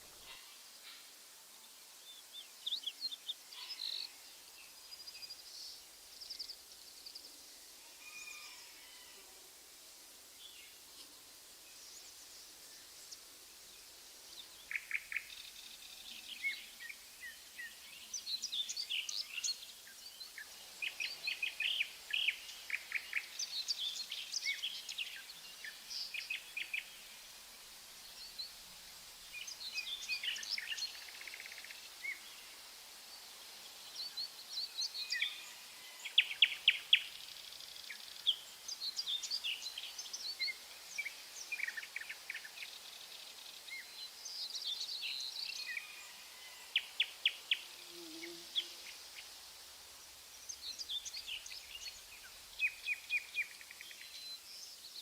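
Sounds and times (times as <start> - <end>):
faint steady outdoor hiss: 0.0 - 55.0.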